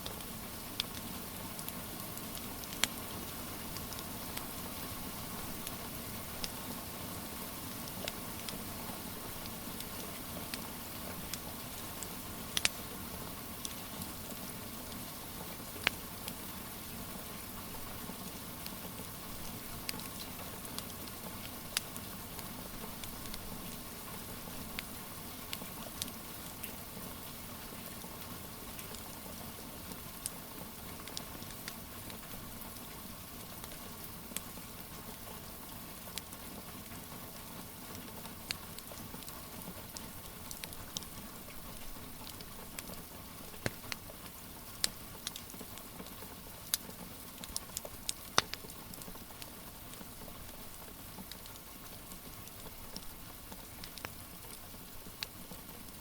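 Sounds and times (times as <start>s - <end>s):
fire crackling and popping: 0.0s - 56.0s
steady rain hiss: 0.0s - 56.0s.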